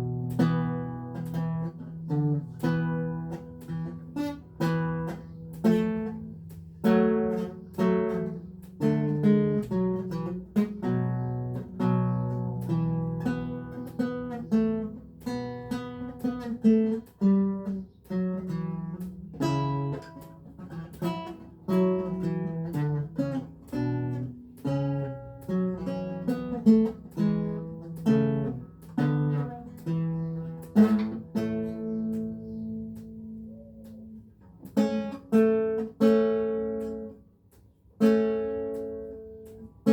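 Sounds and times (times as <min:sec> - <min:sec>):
lute playing plucked notes: 0:00.0 - 0:39.9.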